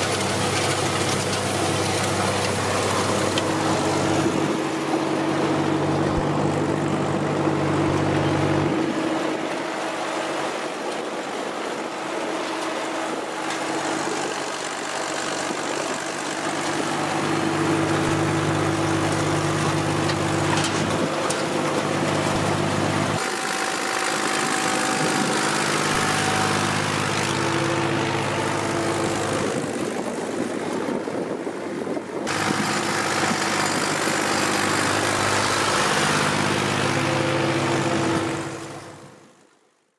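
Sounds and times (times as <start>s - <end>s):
tractor diesel engine under load: 0.0s - 39.5s.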